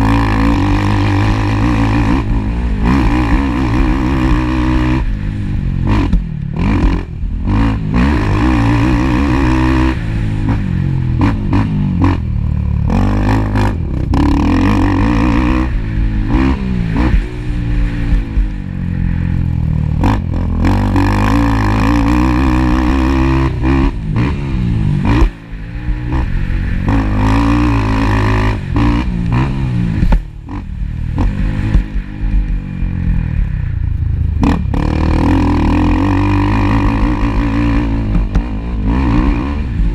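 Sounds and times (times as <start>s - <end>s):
atv engines revving: 0.0s - 39.9s.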